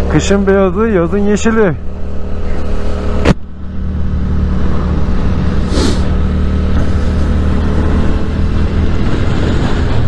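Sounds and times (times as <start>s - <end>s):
car passing: 0.0s - 10.0s
motorcycle engine running: 0.0s - 10.0s.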